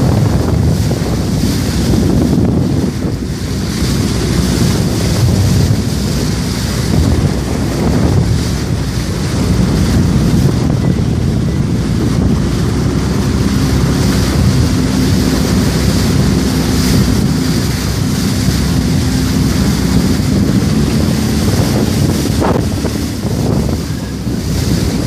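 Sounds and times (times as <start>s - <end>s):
jet ski engine running: 0.0s - 25.0s
water rushing: 0.0s - 25.0s
wind buffeting microphone: 0.0s - 25.0s.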